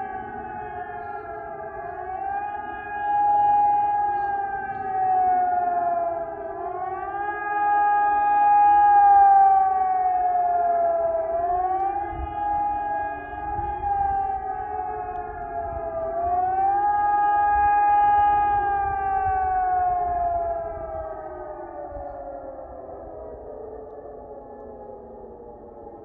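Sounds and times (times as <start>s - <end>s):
rising and falling siren: 0.0s - 26.0s.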